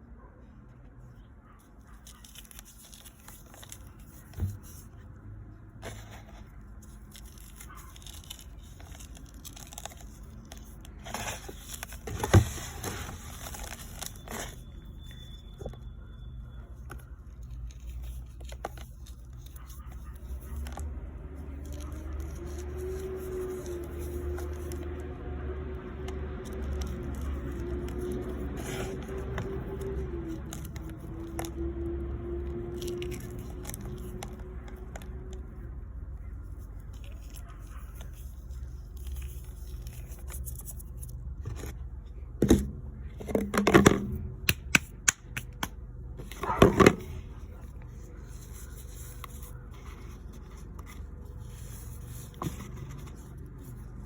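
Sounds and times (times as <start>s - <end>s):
low hum with steady tone: 0.0s - 54.0s.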